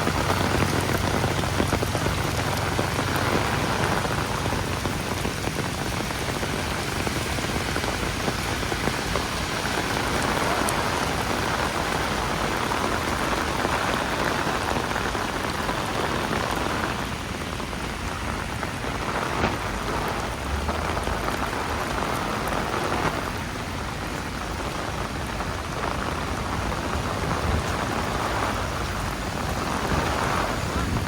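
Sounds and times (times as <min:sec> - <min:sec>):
rain on a street: 0:00.0 - 0:31.0.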